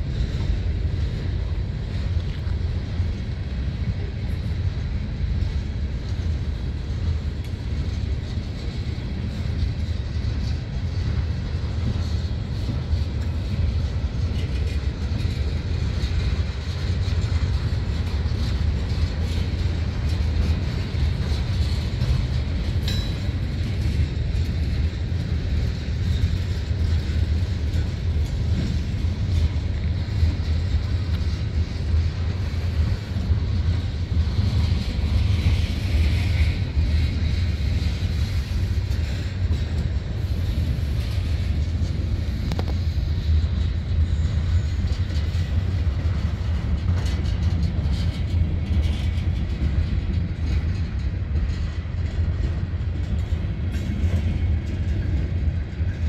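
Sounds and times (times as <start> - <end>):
steel wheels rumbling on rails: 0.0 - 56.0.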